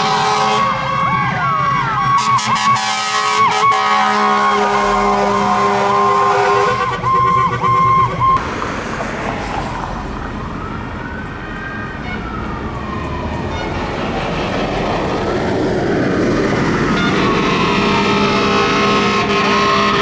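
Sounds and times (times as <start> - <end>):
pulsed horn-like siren tone: 0.0 - 20.0
siren wail: 0.0 - 20.0
vehicle and road noise: 0.0 - 20.0.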